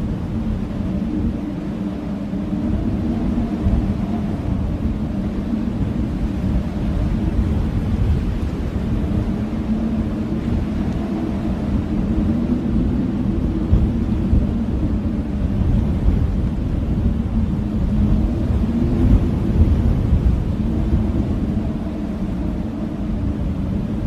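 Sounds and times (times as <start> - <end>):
blizzard wind howling: 0.0 - 24.0.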